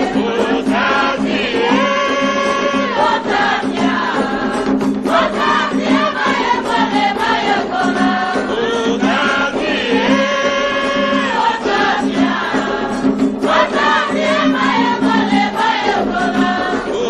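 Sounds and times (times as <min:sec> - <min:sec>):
voices singing a chant: 0:00.0 - 0:17.0.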